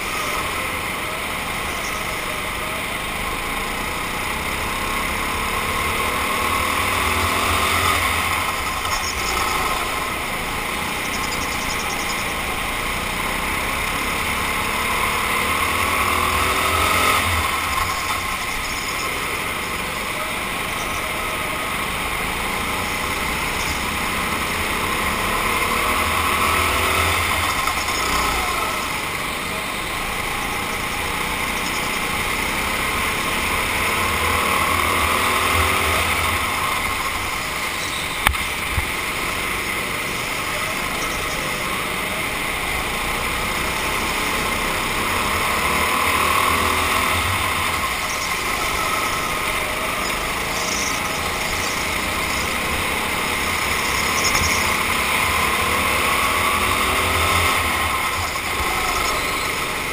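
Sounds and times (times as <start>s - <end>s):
racing kart engines: 0.0s - 59.9s.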